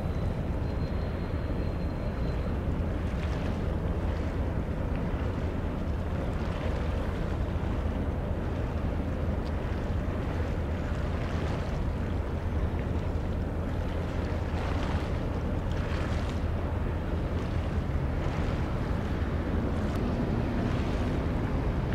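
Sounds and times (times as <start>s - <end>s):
sea noise: 0.0s - 21.9s
wind on the microphone: 2.3s - 21.9s.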